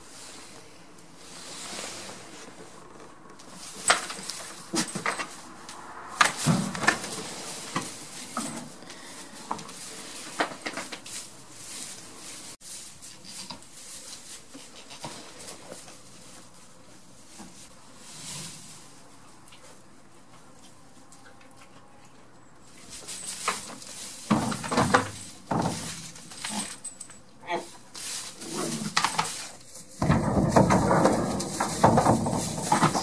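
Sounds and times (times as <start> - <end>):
straw rustling: 0.0 - 26.9, 27.6 - 33.0.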